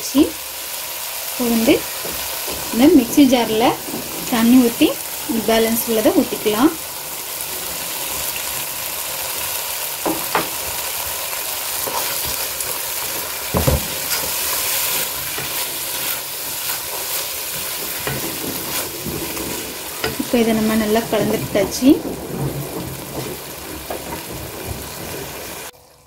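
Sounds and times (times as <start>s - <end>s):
food sizzling in a pot: 0.0s - 26.0s
wooden spatula stirring and scraping: 1.5s - 25.7s.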